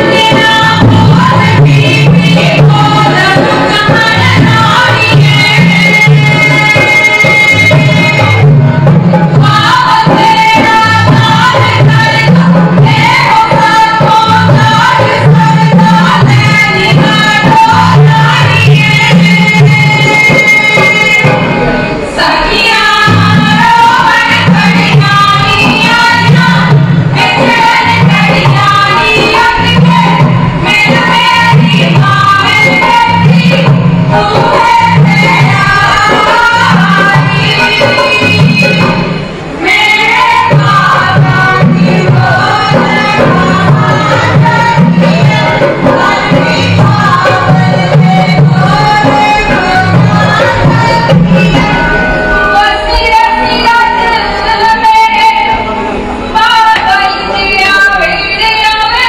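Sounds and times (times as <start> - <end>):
loud folk music: 0.0 - 59.0.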